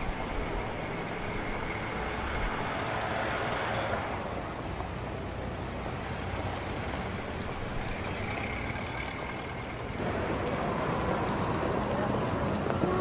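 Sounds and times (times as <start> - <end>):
motor vehicle traffic rumble: 0.0 - 13.0.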